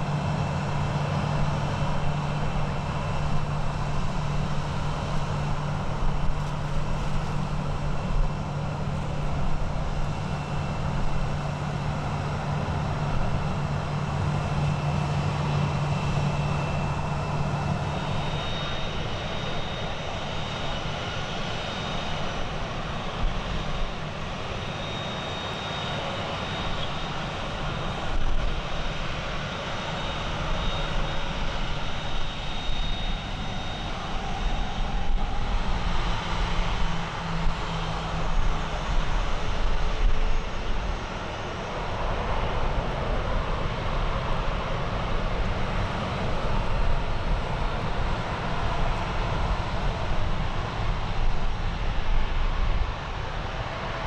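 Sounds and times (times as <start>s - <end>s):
jet engines idling rumble: 0.0s - 54.0s.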